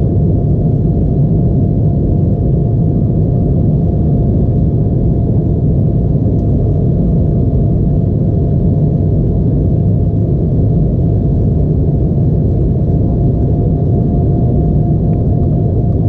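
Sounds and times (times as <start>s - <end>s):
faint steady hum: 0.0s - 16.0s
jet engines and airflow rumble: 0.0s - 16.0s.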